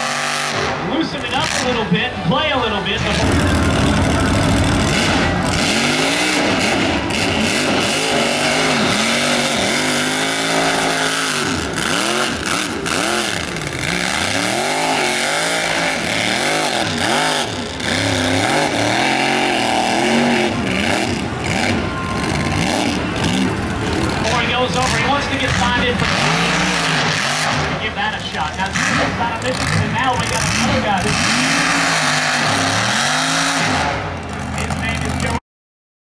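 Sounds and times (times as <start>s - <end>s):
truck engine revving hard: 0.0s - 35.4s.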